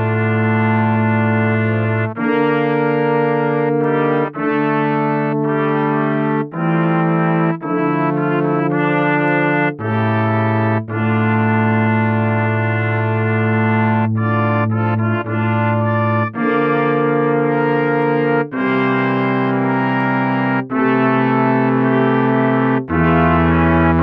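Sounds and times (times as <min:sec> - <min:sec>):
brass quintet playing chords: 0:00.0 - 0:24.0.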